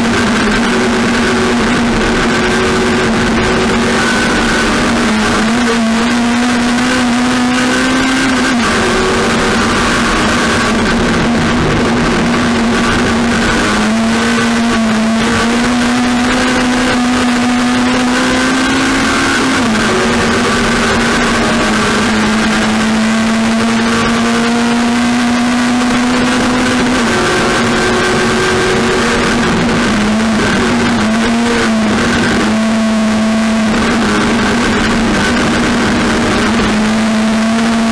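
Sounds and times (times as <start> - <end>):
racing car engine revving: 0.0 - 37.9.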